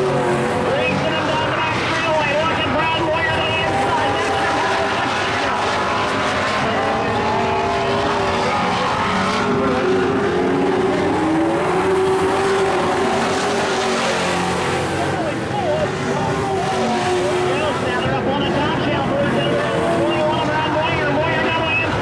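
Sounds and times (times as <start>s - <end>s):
race truck engines: 0.0s - 22.0s.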